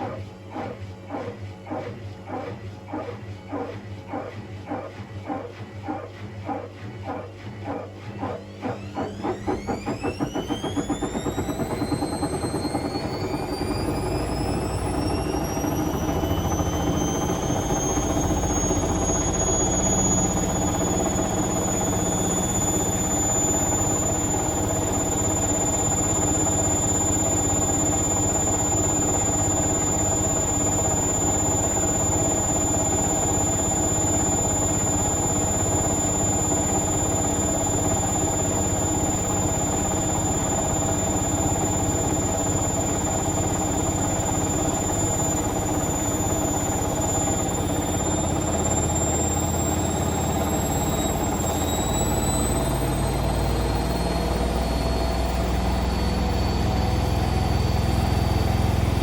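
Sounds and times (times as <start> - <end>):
washing machine spinning: 0.0 - 59.0.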